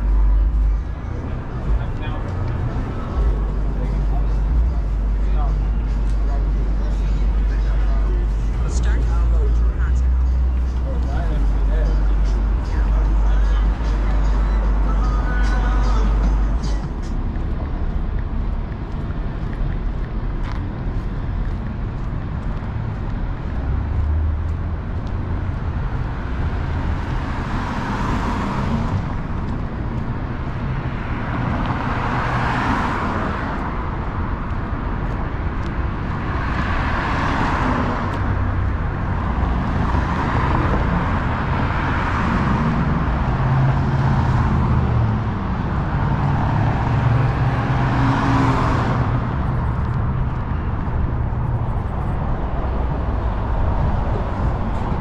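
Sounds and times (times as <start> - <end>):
cars passing: 0.0 - 55.0
traffic rumble: 0.0 - 55.0.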